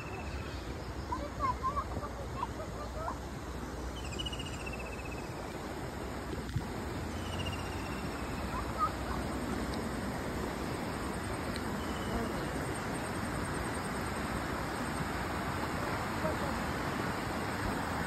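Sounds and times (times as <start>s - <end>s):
flowing river water: 0.0s - 18.0s
insect trill: 0.0s - 18.0s.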